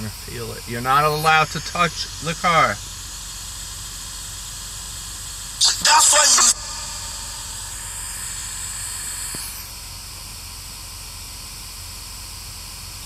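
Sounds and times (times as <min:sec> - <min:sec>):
low steady hum: 0:00.0 - 0:10.9
white noise static: 0:00.0 - 0:10.9.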